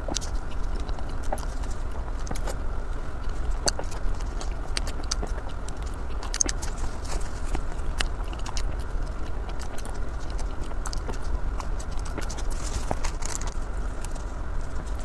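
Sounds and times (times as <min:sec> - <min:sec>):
bread being chewed: 0:00.0 - 0:15.0
steady low hum: 0:00.0 - 0:15.0.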